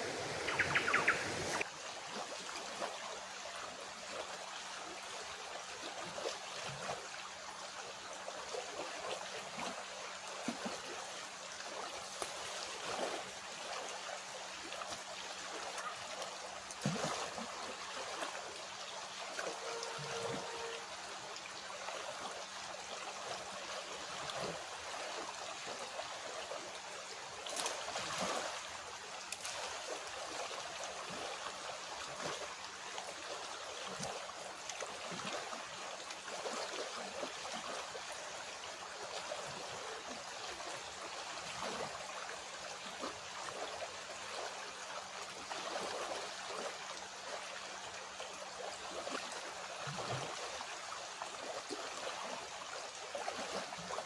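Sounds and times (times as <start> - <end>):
water splashes: 0.0 - 7.2, 8.6 - 54.0
creek flowing over stones: 0.0 - 54.0.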